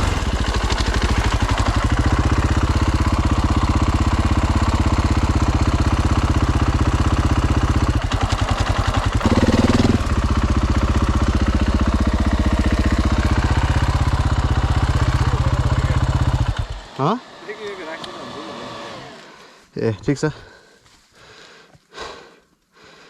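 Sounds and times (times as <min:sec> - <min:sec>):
dirt bike engine idling: 0:00.0 - 0:19.6.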